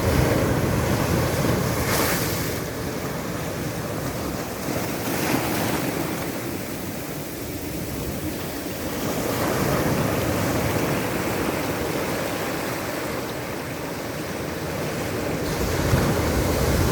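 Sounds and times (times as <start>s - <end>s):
ocean waves washing ashore: 0.0s - 16.9s
wind buffeting microphone: 0.0s - 16.9s.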